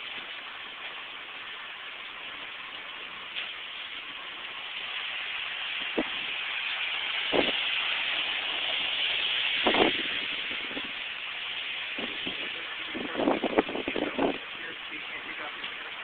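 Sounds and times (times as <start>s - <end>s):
wind and rain hissing: 0.0s - 16.0s.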